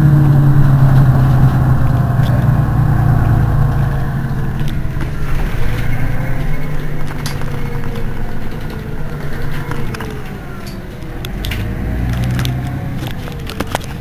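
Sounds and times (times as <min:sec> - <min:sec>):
bus engine idling: 0:00.0 - 0:14.0
sharp clicks: 0:00.3 - 0:14.0.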